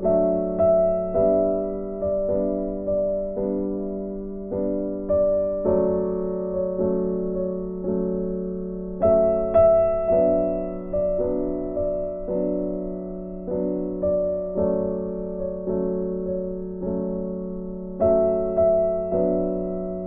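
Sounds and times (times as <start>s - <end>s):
soft piano chords: 0.0s - 20.0s.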